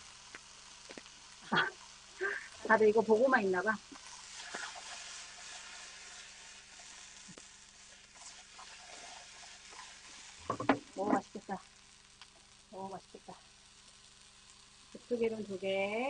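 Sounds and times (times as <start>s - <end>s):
garlic sizzling in a frying pan: 0.0s - 16.0s.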